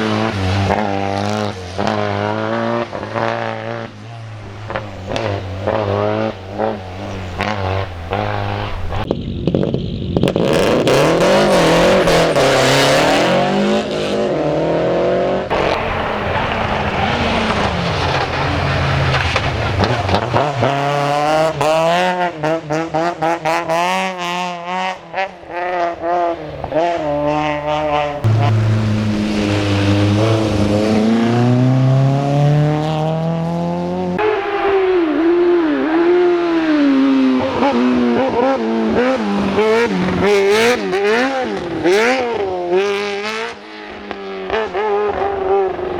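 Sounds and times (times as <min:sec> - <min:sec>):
race car engines revving: 0:00.0 - 0:45.9.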